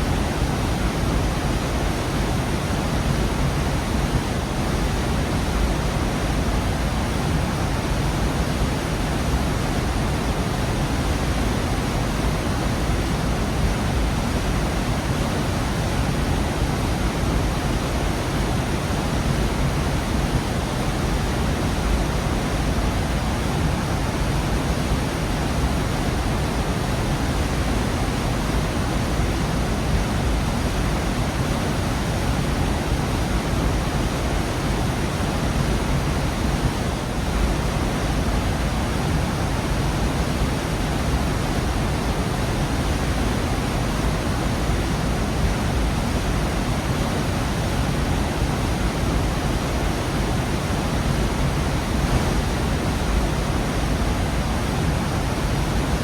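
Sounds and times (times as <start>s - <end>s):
waterfall rushing: 8.8s - 56.0s.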